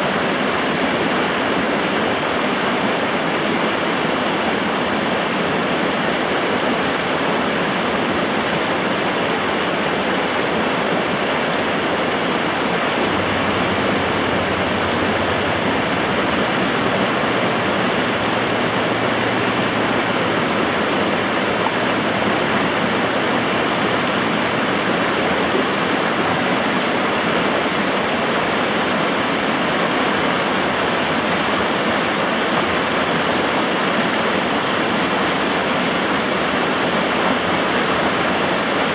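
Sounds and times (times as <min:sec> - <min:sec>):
fast choppy river water rushing: 0:00.0 - 0:38.9
water pouring down a bank: 0:00.0 - 0:38.9.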